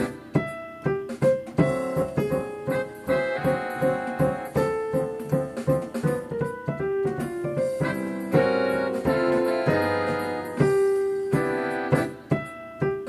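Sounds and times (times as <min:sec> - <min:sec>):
jazz piano playing: 0:00.0 - 0:13.0.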